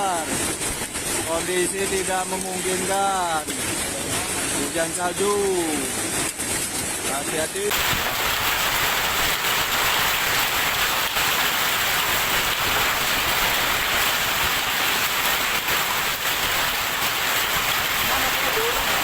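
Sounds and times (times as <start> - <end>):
hail and heavy rain: 0.0 - 19.0.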